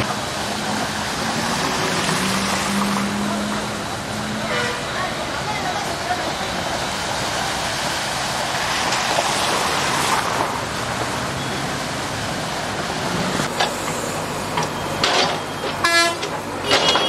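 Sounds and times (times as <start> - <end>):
floodwater rushing: 0.0 - 17.0
vehicles driving through water: 0.0 - 17.0.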